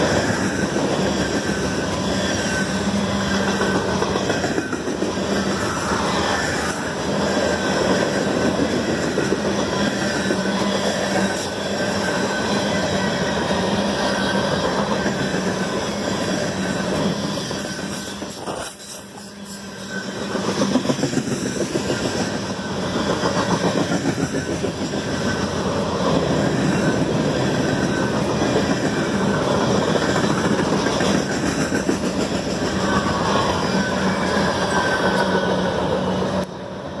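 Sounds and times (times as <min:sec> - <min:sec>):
freight train wheels rumbling on rails: 0:00.0 - 0:37.0.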